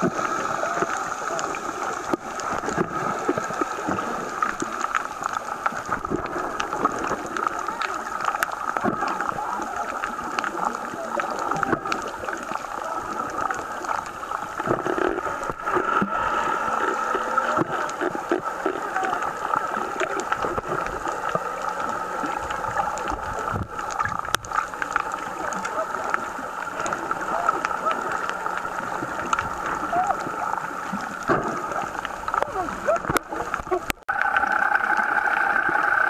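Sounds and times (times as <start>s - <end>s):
clicks and crackles: 0.0s - 36.0s
muffled underwater hiss: 0.0s - 36.0s.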